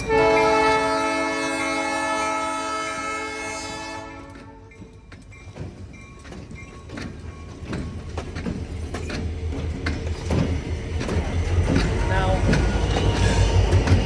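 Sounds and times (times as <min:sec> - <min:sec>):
diesel locomotive rumble: 0:00.0 - 0:14.0
train wheels clacking on rail joints: 0:00.0 - 0:14.0.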